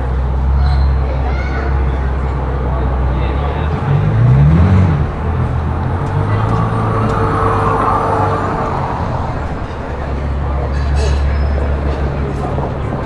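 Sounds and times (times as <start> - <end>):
vehicle engine running: 0.0 - 13.0
vehicle passing close by: 2.4 - 13.0.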